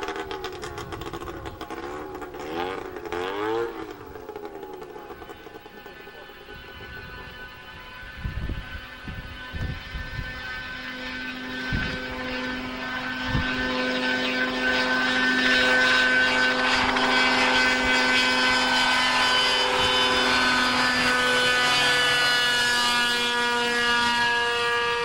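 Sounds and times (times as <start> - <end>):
aircraft engine and propeller: 0.0 - 25.0.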